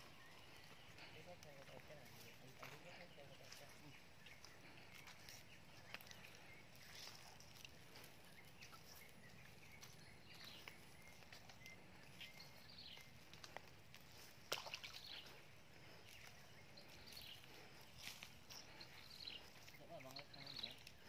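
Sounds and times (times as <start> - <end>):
soft ticks and rustles: 0.0 - 21.0.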